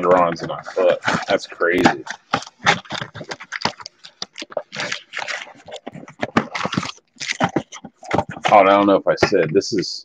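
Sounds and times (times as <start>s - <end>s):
trading cards handled: 0.0s - 8.7s.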